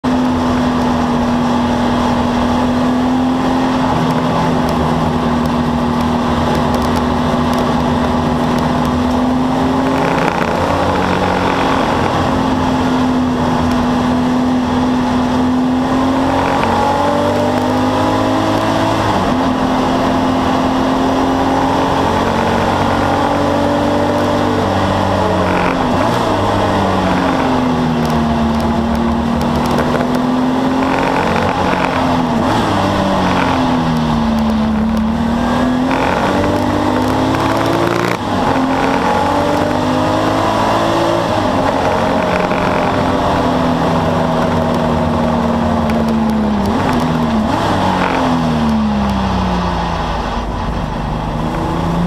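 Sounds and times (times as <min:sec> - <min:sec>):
race car engine at speed: 0:00.0 - 0:52.0.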